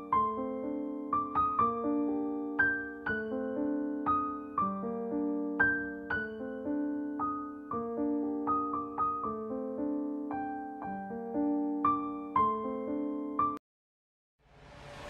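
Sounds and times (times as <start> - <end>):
gentle piano melody: 0.0 - 13.6.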